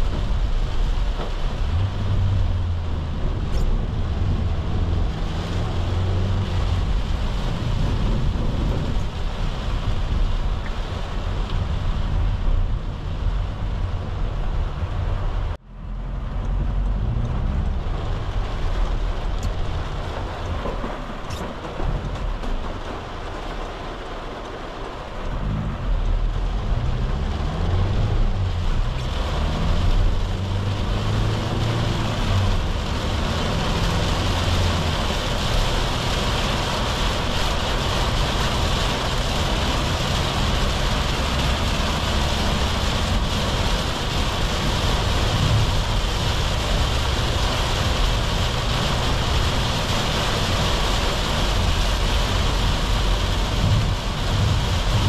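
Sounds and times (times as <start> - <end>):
diesel engine accelerating: 0.0 - 10.3, 11.0 - 21.8, 25.1 - 55.0
rain on car body: 0.0 - 55.0
tyres hissing on wet road: 0.0 - 55.0.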